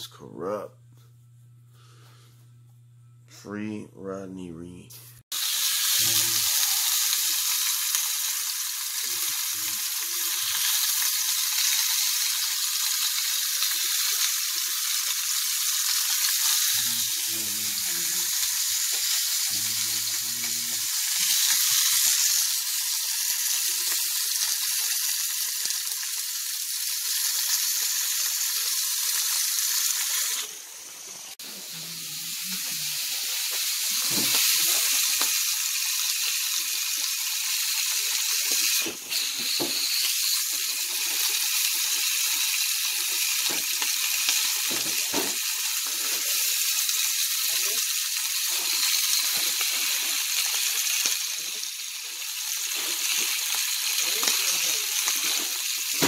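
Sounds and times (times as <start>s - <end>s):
food frying with hissing sizzle: 5.1s - 56.0s.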